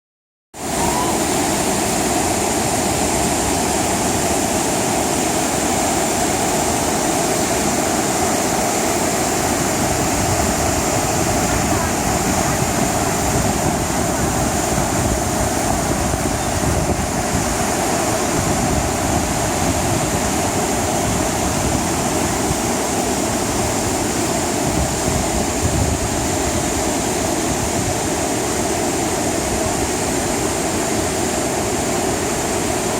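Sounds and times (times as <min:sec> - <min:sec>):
waterfall rushing over rock: 0:00.6 - 0:32.9.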